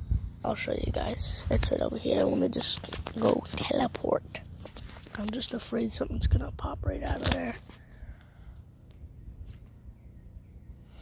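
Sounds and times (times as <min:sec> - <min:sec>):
low rumbling on microphone: 0:00.0 - 0:11.0.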